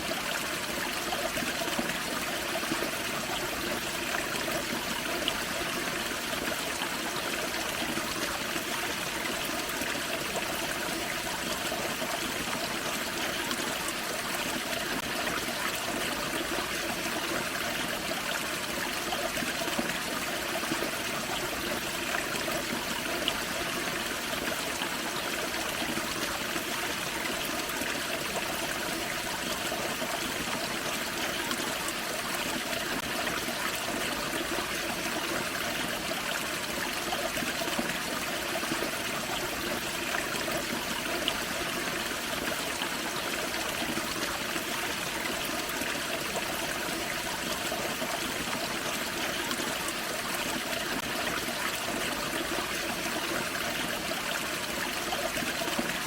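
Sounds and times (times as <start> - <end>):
waterfall and creek running: 0.0 - 56.0.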